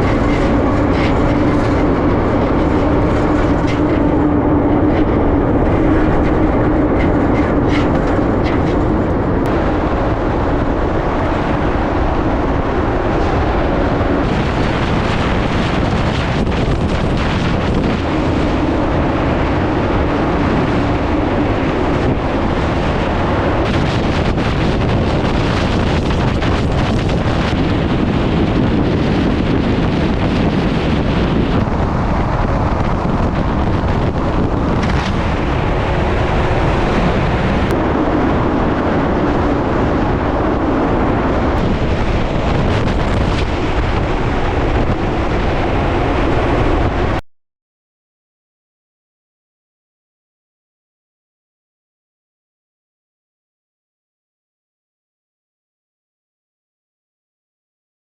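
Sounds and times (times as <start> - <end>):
low hum: 0.0 - 47.2
strong wind rushing: 0.0 - 47.2
wind buffeting microphone: 0.0 - 47.2.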